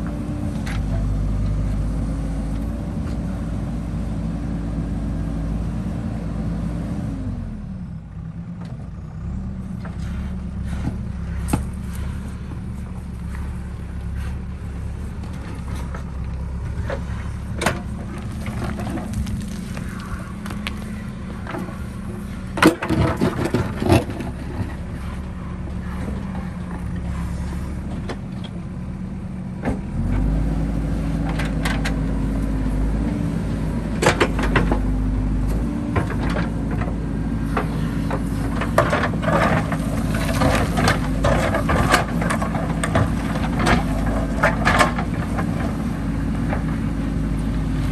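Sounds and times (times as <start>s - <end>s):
diesel engine running and revving: 0.0s - 47.9s.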